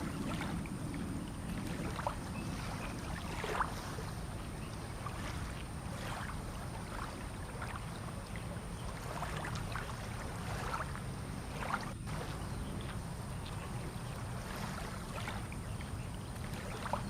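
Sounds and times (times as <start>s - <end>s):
water lapping against boats: 0.0s - 17.0s.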